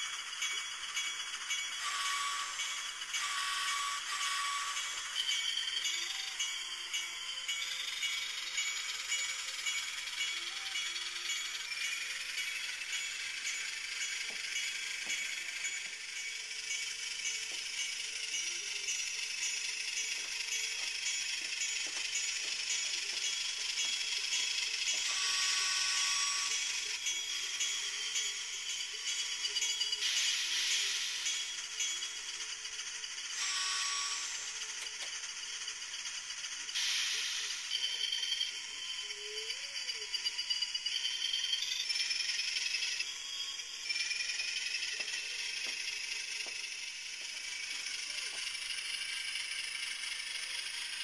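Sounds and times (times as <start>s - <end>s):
model motor and gears whirring: 0.0s - 51.0s.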